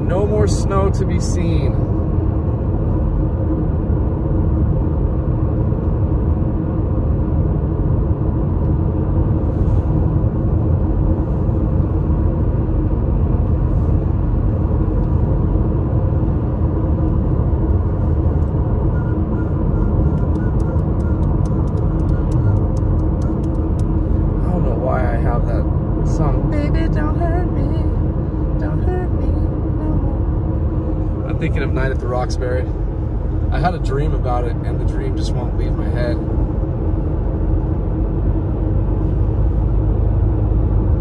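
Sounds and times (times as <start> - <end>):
car cruising on highway: 0.0 - 41.0.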